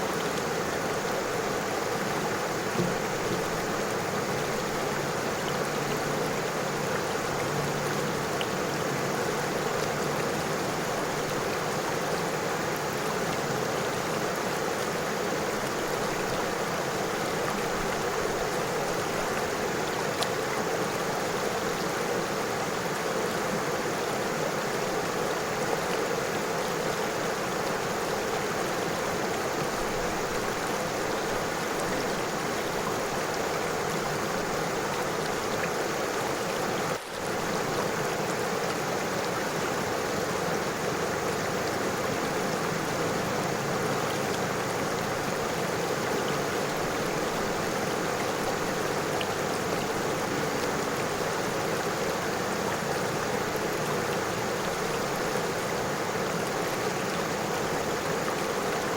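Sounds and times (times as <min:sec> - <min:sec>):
river flowing over stones: 0:00.0 - 0:58.9.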